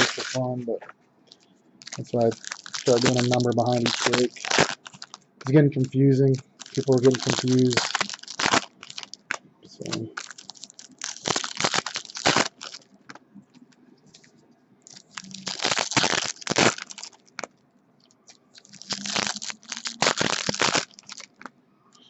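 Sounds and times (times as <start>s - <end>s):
card pack wrappers crinkling: 0.0s - 0.5s, 1.3s - 13.2s, 14.9s - 17.5s, 18.1s - 21.5s.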